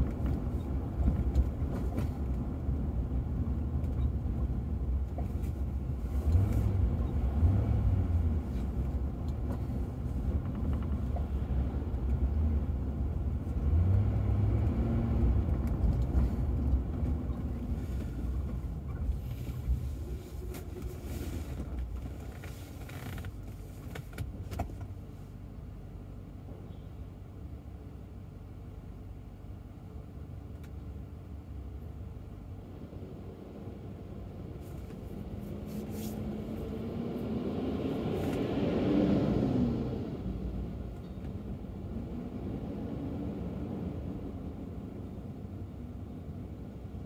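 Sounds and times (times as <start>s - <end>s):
road and engine rumble in car: 0.0s - 47.0s.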